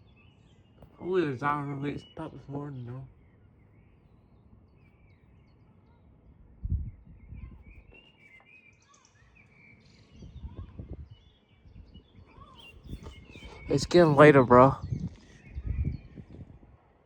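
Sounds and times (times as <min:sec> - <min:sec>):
small birds chirping: 0:00.0 - 0:16.8.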